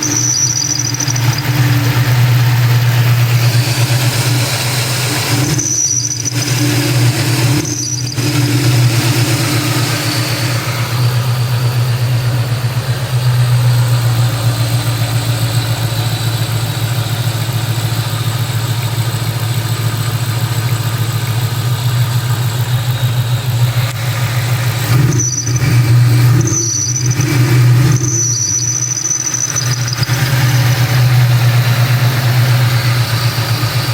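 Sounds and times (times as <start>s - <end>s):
car engine idling: 0.0s - 33.9s
high-pitched belt squeal: 0.0s - 33.9s.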